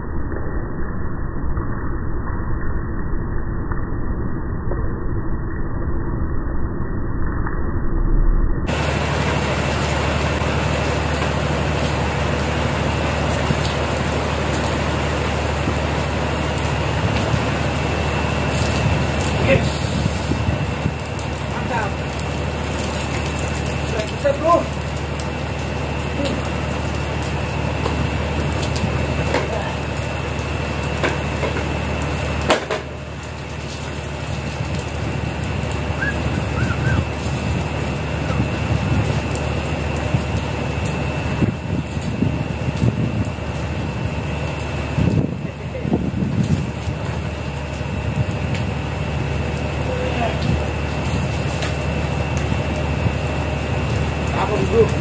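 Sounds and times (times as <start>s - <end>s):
machinery low hum: 0.0s - 55.0s.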